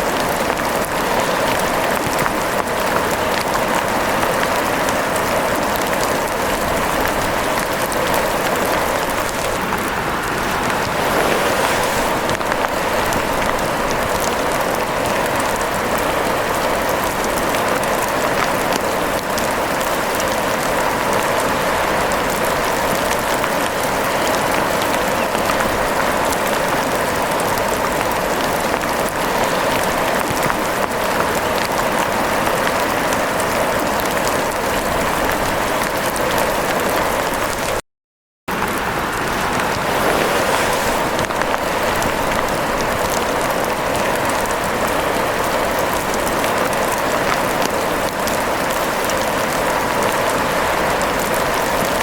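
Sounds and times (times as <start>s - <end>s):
steady rain patter: 0.0s - 37.8s, 38.5s - 52.0s.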